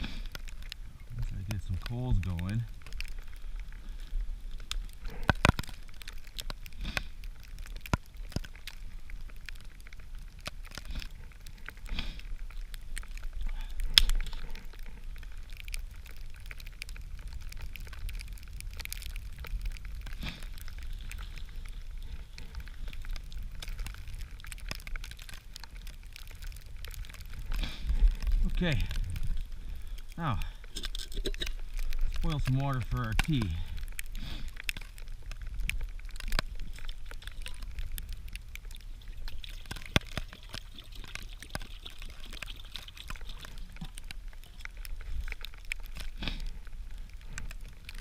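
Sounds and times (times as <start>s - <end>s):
low wind rumble: 0.0s - 40.9s
campfire crackling and popping: 0.0s - 48.0s.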